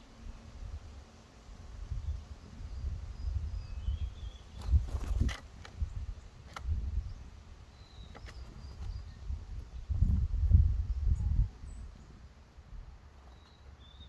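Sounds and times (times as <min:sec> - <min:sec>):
wind rumble on microphone: 0:00.0 - 0:13.2
songbirds chirping: 0:00.0 - 0:14.0.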